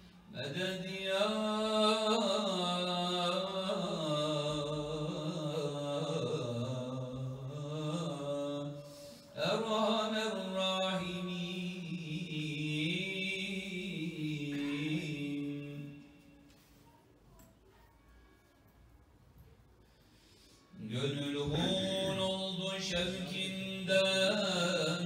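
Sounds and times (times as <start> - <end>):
man chanting into a microphone: 0.3 - 16.2, 20.7 - 25.0.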